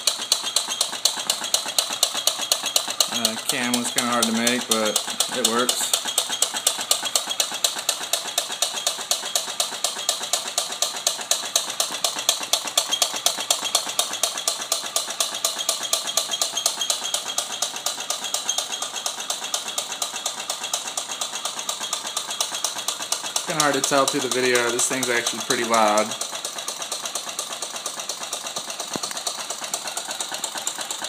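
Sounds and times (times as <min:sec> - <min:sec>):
small engine clicking rapidly: 0:00.0 - 0:31.0.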